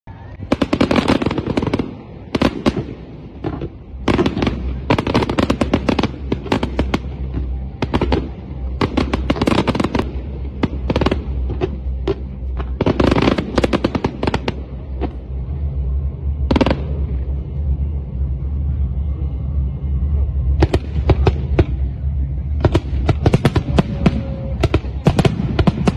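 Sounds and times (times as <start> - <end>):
fireworks bangs and crackles: 0.1 - 25.9
steady low hum: 0.1 - 25.9.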